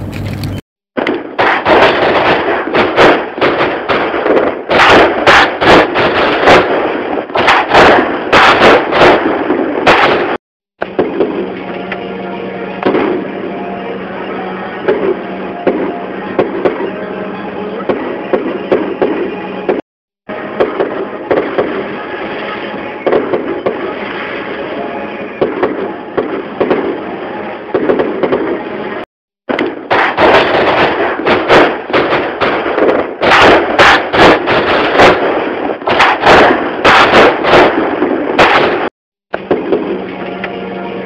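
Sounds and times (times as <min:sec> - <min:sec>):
fireworks crackling and popping: 0:00.0 - 0:12.0, 0:17.9 - 0:40.4
fireworks banging: 0:00.0 - 0:12.1, 0:12.7 - 0:13.8, 0:14.7 - 0:40.6.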